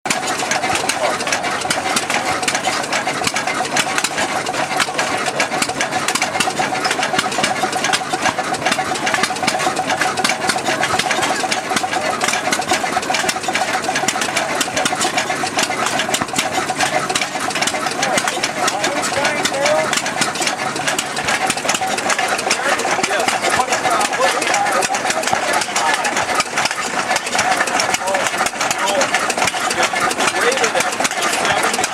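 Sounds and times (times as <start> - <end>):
diesel engine running: 0.0 - 31.9
valve gear clattering: 0.1 - 31.9.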